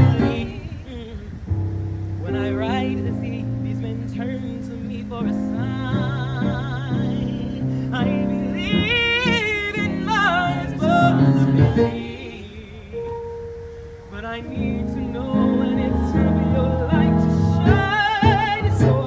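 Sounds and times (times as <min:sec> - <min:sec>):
person singing with vibrato: 0:00.0 - 0:01.6, 0:02.2 - 0:19.0
sustained chordal accompaniment: 0:01.9 - 0:19.0.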